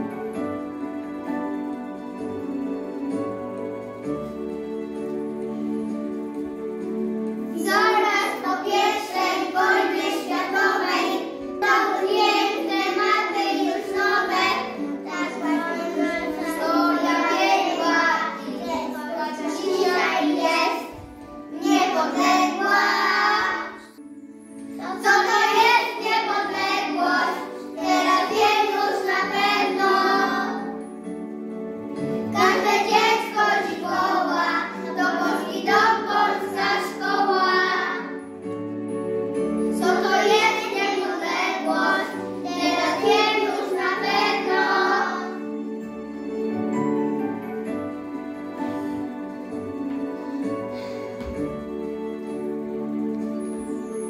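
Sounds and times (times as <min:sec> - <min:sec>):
instrumental accompaniment: 0:00.0 - 0:54.0
children singing: 0:04.4 - 0:24.0, 0:24.7 - 0:30.9, 0:32.0 - 0:38.3, 0:39.6 - 0:54.0.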